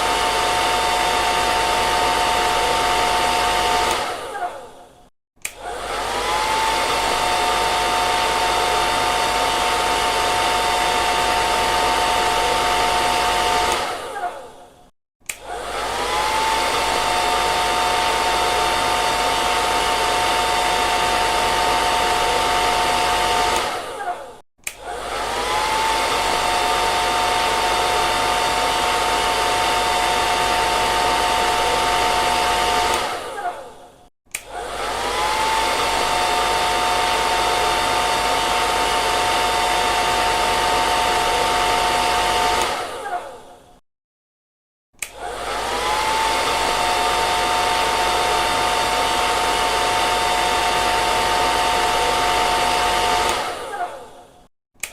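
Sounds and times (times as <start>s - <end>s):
hair dryer blowing: 0.0s - 14.7s, 15.3s - 43.8s, 45.0s - 54.9s.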